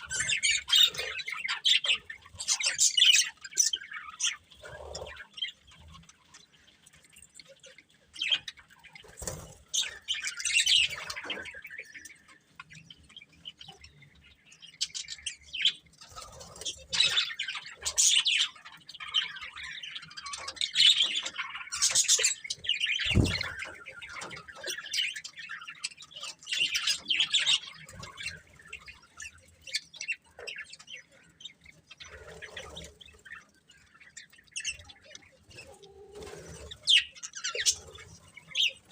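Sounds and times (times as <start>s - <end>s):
budgerigars chirping: 0.0s - 6.7s, 8.2s - 35.8s, 36.7s - 38.9s.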